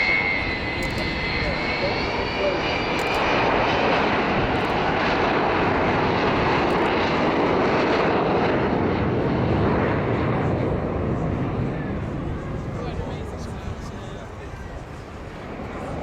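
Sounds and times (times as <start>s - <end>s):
jet engines roaring in flight: 0.0s - 16.0s.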